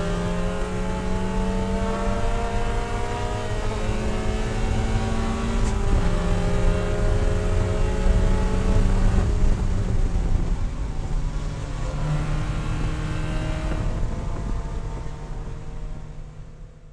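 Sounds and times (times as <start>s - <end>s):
race car engine revving: 0.0s - 15.6s.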